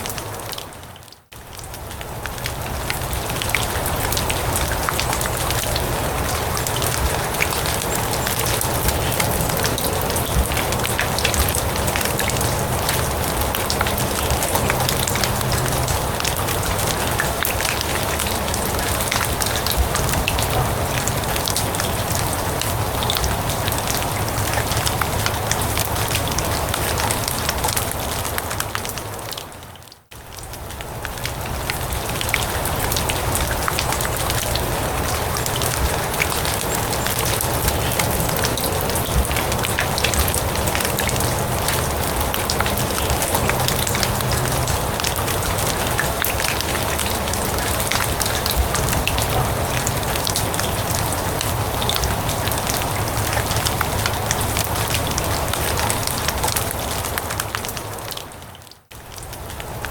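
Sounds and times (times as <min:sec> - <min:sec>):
rain falling on grass and leaves: 0:00.0 - 0:59.9.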